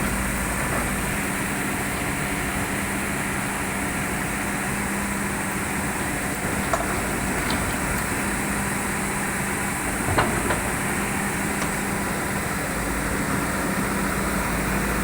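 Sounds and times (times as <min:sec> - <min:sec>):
excavator diesel engine humming: 0:00.0 - 0:15.0.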